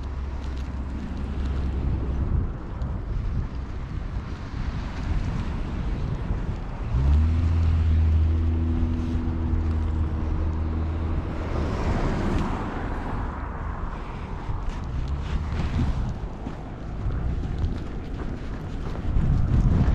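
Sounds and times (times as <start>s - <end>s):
vehicle engine running: 0.0s - 19.9s
wind buffeting microphone: 0.0s - 19.9s.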